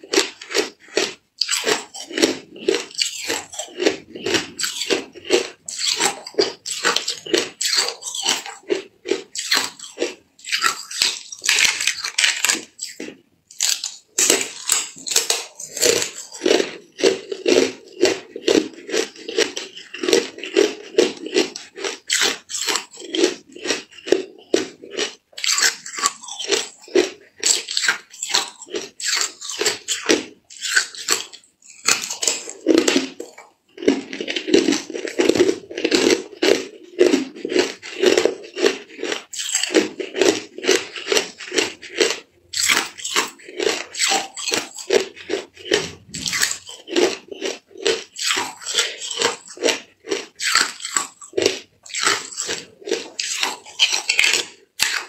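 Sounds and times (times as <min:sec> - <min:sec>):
ice being crunched and chewed: 0:00.0 - 0:55.0.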